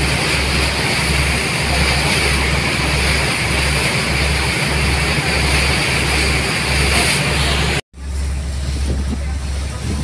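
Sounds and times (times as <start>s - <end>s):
boat engine: 0.0s - 10.0s
water rushing in boat wake: 0.0s - 10.0s
wind on microphone: 0.0s - 10.0s.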